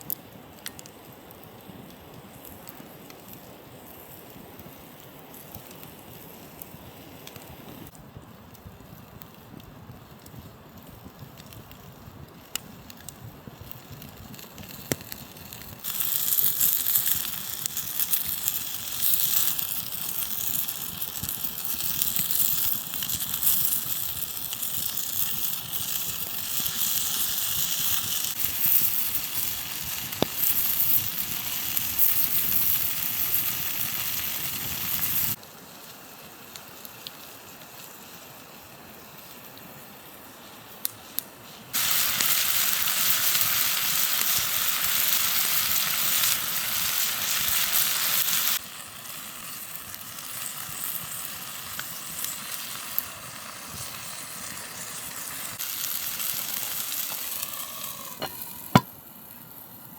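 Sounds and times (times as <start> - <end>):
campfire crackling: 0.0 - 59.9
loud crackling hiss: 0.0 - 59.9.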